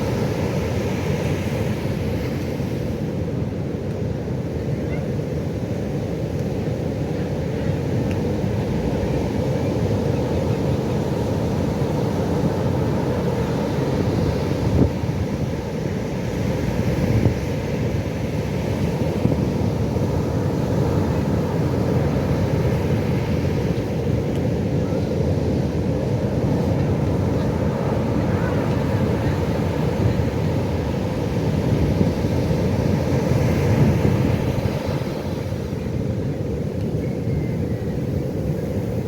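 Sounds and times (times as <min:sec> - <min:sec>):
low rumble of waves: 0:00.0 - 0:39.0.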